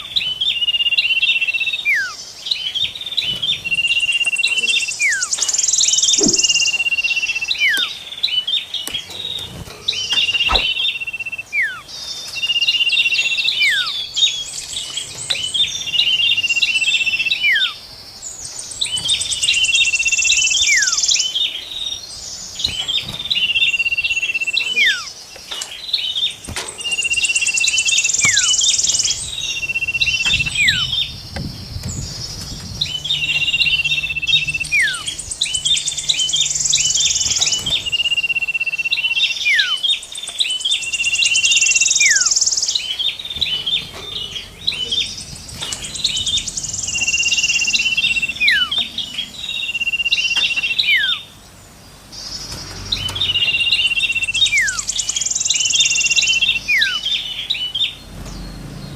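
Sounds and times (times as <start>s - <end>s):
songbirds whistling and trilling: 0.0s - 58.9s.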